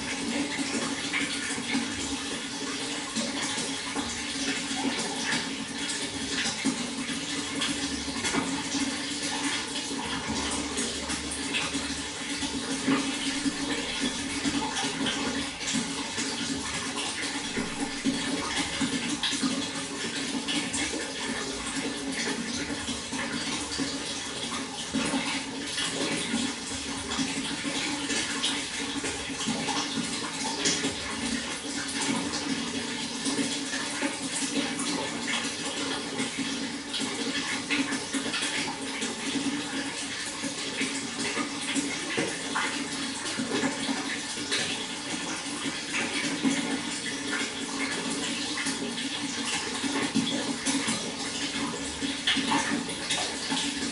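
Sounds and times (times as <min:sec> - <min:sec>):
water flowing: 0:00.0 - 0:53.9
water splashing and gurgling: 0:00.0 - 0:53.9.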